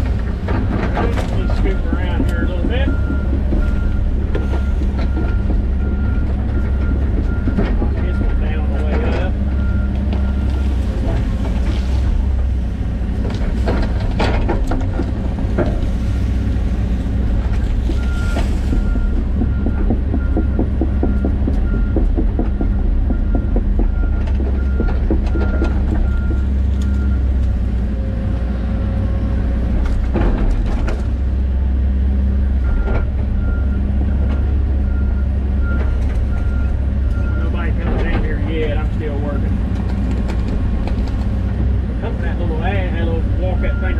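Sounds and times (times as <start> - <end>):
digging knocks and crackles: 0.0 - 31.6, 32.6 - 43.9
excavator diesel engine running: 0.0 - 43.9.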